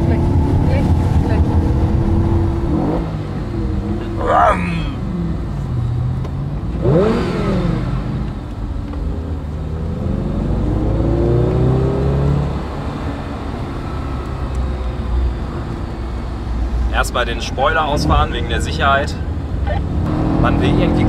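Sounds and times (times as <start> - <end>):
car engine accelerating: 0.0 - 21.0
wind and road noise: 0.0 - 21.0.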